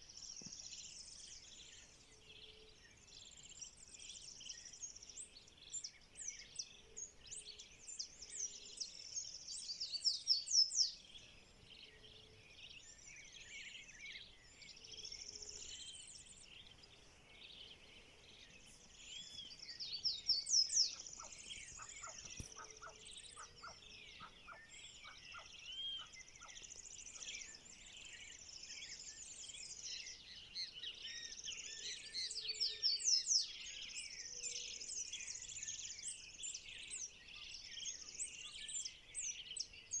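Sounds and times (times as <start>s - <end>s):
birds chirping and singing: 0.1s - 40.0s.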